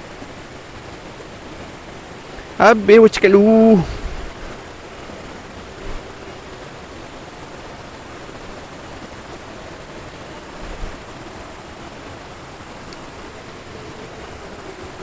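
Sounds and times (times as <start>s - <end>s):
stream rushing over rapids: 0.0s - 15.0s.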